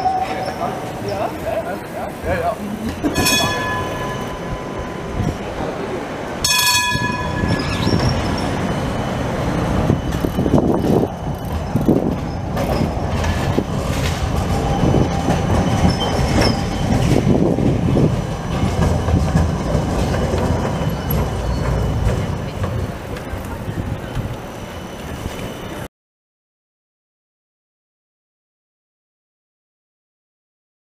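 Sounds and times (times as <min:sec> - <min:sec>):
tram wheels rumbling and clicking: 0:00.0 - 0:25.9.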